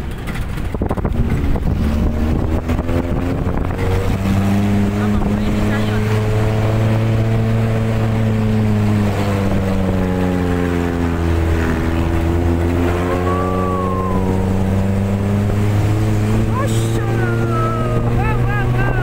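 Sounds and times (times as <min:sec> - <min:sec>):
jeep engine running: 0:00.0 - 0:19.0.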